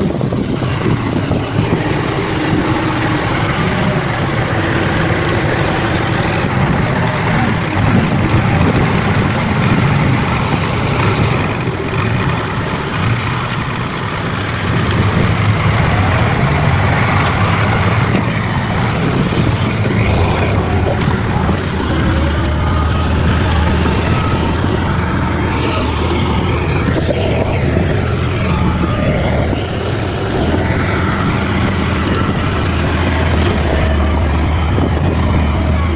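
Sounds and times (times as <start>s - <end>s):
bulldozer diesel engine droning: 0.0s - 35.9s.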